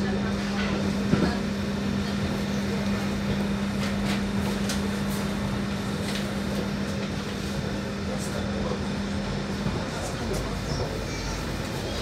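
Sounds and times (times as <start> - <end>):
tram hum and rumble: 0.0 - 12.0.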